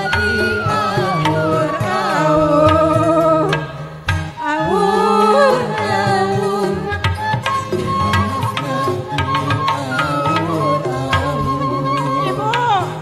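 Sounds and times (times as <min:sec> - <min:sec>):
hand drum beat: 0:00.0 - 0:13.0
instrumental backing music: 0:00.0 - 0:13.0
woman singing into a microphone: 0:00.0 - 0:13.0.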